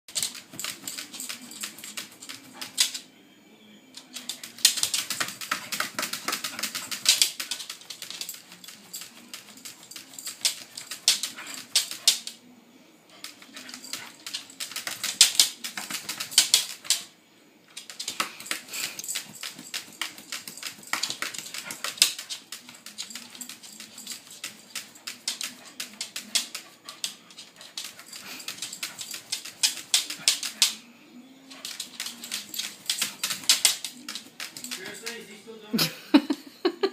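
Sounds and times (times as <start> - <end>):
dog claws clicking on hard surfaces: 0.1 - 3.0, 4.0 - 12.4, 13.2 - 17.1, 17.7 - 30.8, 31.5 - 35.2.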